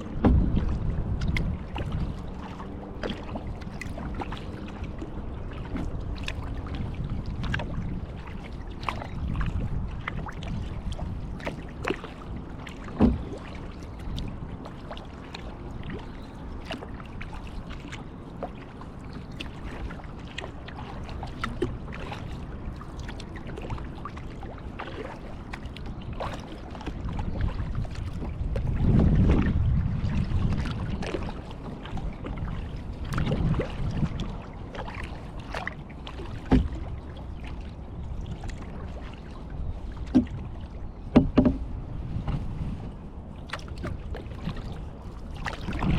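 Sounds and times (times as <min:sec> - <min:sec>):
kayak paddle strokes in water: 0:00.0 - 0:45.9.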